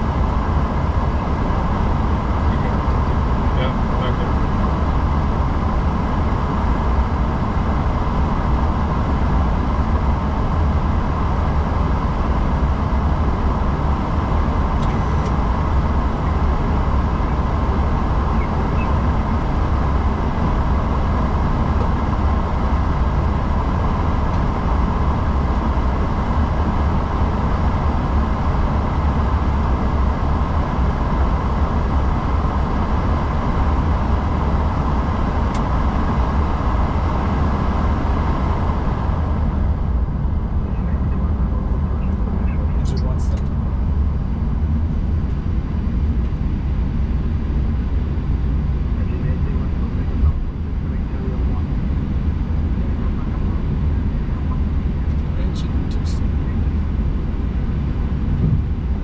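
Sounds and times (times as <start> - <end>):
constant low hum: 0.0 - 59.0.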